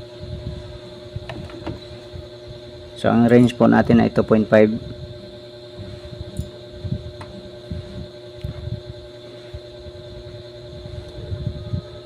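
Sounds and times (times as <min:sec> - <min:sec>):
amplifier electrical hum: 0:00.0 - 0:12.0.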